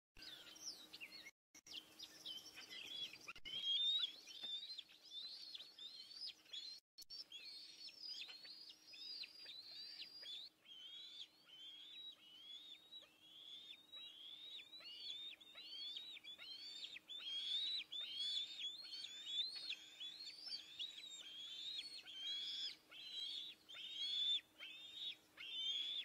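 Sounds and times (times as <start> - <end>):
eagles chirping whistles: 2.2 - 26.0.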